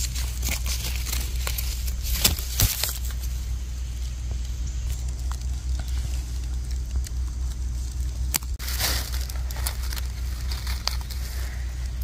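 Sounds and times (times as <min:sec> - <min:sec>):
dry leaf litter rustling: 0:00.0 - 0:12.0
low rumble: 0:00.0 - 0:12.0.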